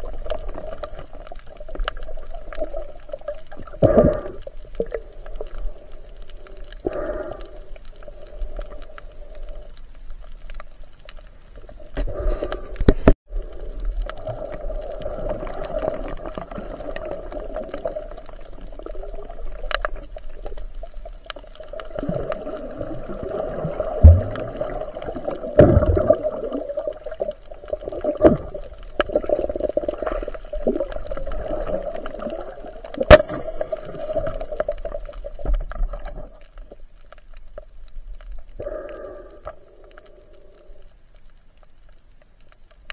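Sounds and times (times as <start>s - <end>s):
underwater watery hum: 0.0s - 42.9s.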